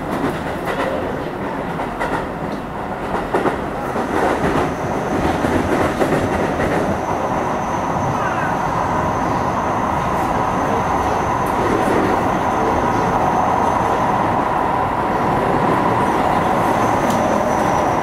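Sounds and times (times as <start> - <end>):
train rolling noise: 0.0 - 18.0.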